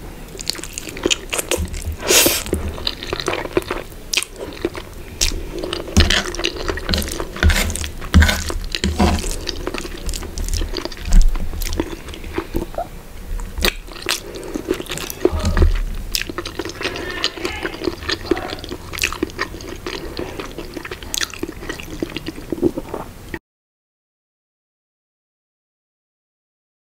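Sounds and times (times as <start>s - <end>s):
wet chewing mouth sounds: 0.3s - 23.1s.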